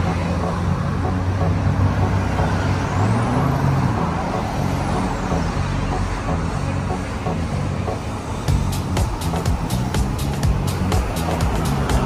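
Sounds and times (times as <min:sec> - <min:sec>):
heavy vehicle engine rumble: 0:00.0 - 0:12.0
road traffic: 0:00.0 - 0:12.0.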